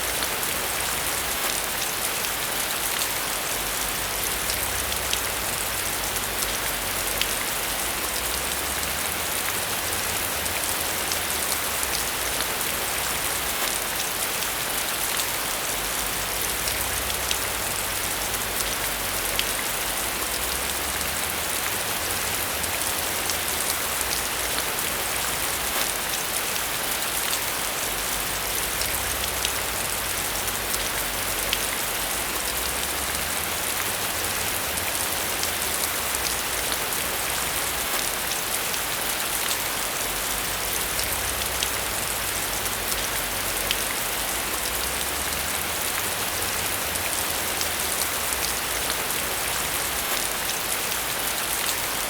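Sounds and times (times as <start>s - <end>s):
rain on a surface: 0.0s - 52.0s.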